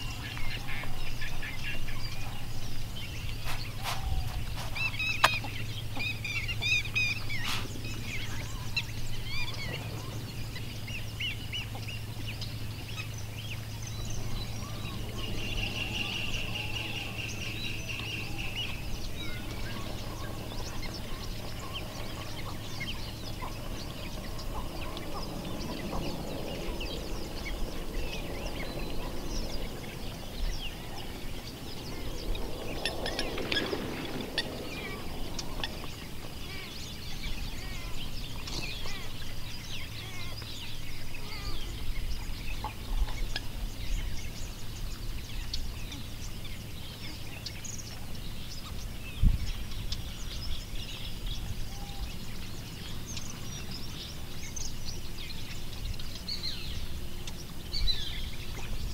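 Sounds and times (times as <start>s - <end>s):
low background hum: 0.0s - 58.9s
small birds chirping: 0.0s - 58.9s.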